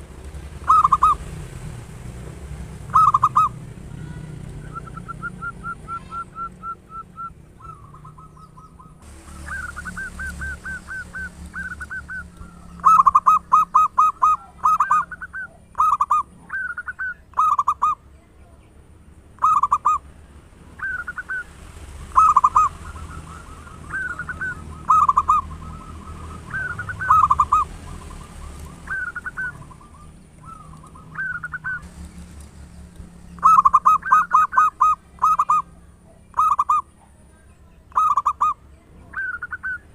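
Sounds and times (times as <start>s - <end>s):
doves cooing: 0.0s - 18.1s, 19.3s - 20.1s, 20.7s - 39.9s.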